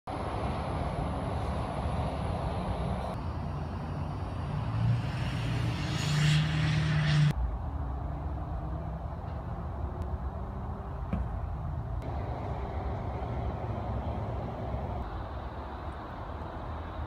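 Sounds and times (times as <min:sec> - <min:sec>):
outdoor traffic noise: 0:00.1 - 0:17.0
vehicle engine drone rising in pitch: 0:00.2 - 0:11.1, 0:12.0 - 0:16.9.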